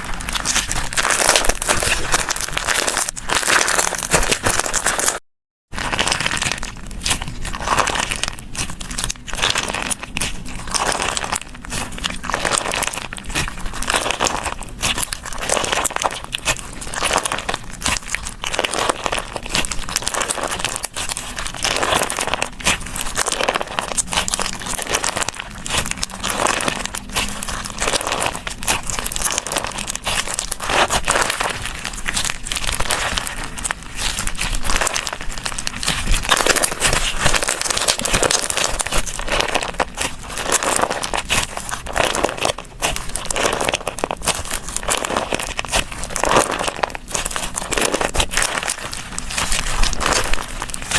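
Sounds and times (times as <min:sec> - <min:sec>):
slime squeezed crackling: 0:00.0 - 0:50.9.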